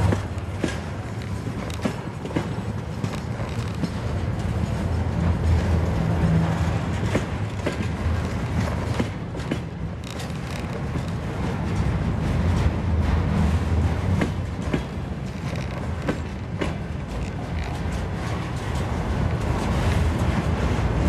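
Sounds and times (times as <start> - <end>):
train wheels rumbling on rail: 0.0 - 21.0
wheels clicking over rail joints: 0.0 - 21.0.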